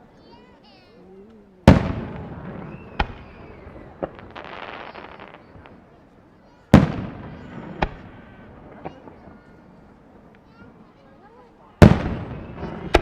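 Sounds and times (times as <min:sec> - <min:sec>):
crackling firework fizz: 0:01.6 - 0:13.0
fireworks bangs and booms: 0:01.6 - 0:13.0.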